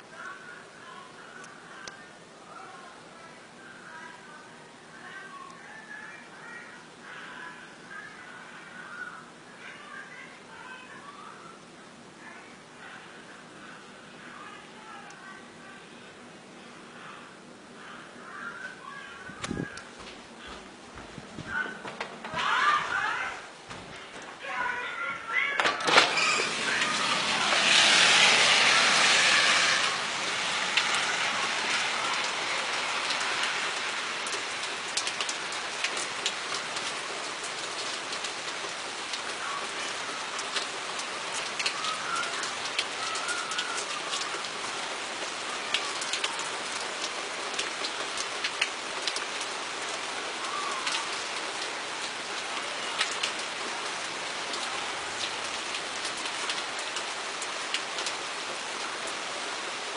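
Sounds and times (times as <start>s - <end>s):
raindrops ticking on a surface: 0.0s - 15.9s, 18.1s - 59.9s
heavy rain falling: 0.0s - 59.9s.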